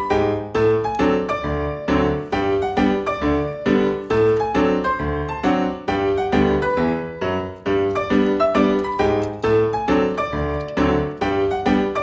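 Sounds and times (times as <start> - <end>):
piano chords and bass notes: 0.0 - 12.0.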